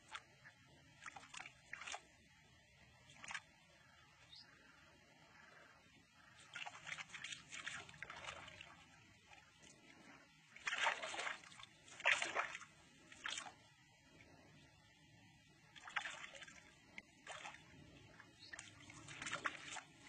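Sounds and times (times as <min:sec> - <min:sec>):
water splashing and sloshing: 0:00.0 - 0:20.0.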